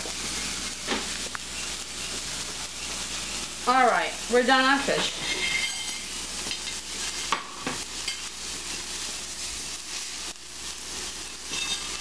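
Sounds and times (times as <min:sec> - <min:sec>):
fish fillets sizzling in a frying pan: 0:00.0 - 0:12.0.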